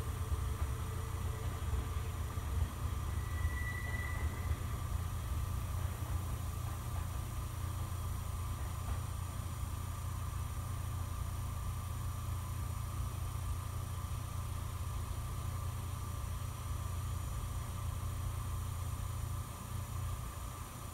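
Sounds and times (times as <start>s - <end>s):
faint steady whine: 0.0s - 20.9s
low electrical hum: 0.0s - 20.9s.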